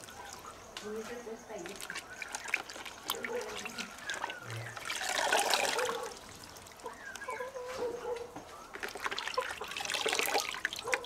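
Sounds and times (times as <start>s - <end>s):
water dripping: 0.0s - 7.3s, 8.7s - 11.0s
water sloshing in a bucket: 0.0s - 7.4s, 8.5s - 11.0s.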